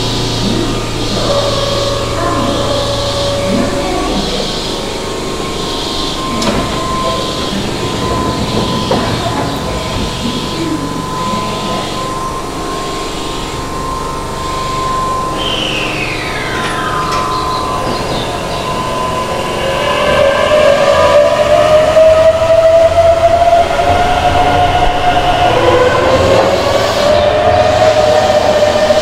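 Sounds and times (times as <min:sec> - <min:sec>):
electric train running: 0:00.0 - 0:29.0
steady high tone: 0:00.0 - 0:29.0
whine falling in pitch: 0:00.0 - 0:29.0.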